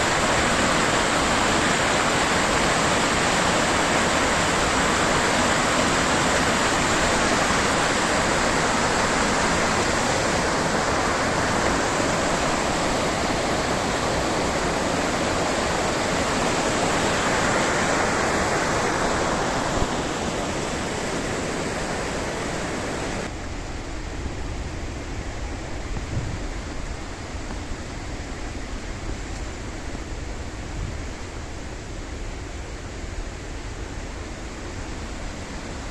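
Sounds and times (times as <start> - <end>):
river water rushing: 0.0 - 25.8, 26.4 - 35.9.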